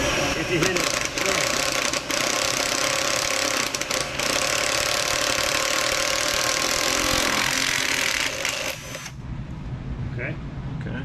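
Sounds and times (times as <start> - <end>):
electric drill boring through metal: 0.0 - 9.2.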